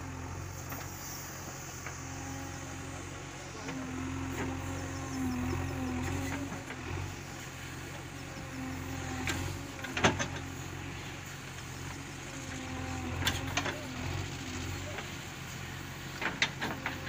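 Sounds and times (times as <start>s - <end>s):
backhoe digging into soil: 0.0s - 17.0s
diesel engine running: 0.0s - 17.0s.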